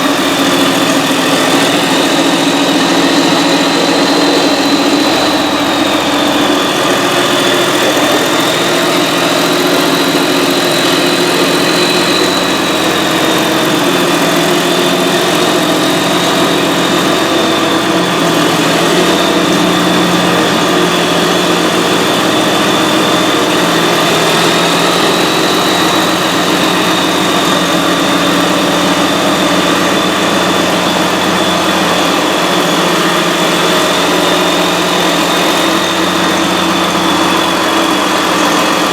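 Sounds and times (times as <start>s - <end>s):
diesel engine running: 0.0s - 38.9s
high whine: 0.0s - 38.9s.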